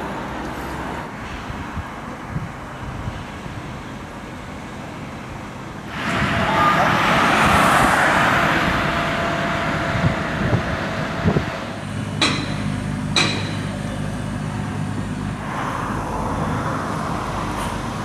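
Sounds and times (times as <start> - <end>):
engine running: 3.4 - 18.0.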